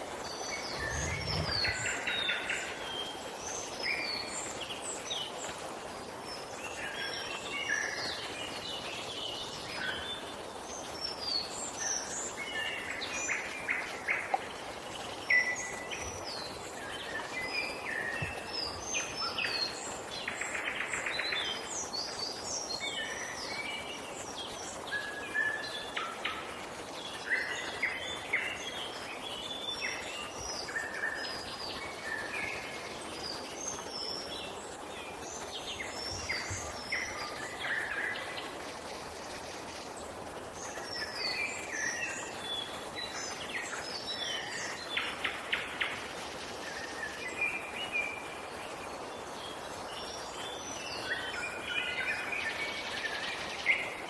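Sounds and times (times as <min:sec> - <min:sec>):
faint background hiss: 0:00.0 - 0:54.0
songbirds singing and calling: 0:00.0 - 0:54.0.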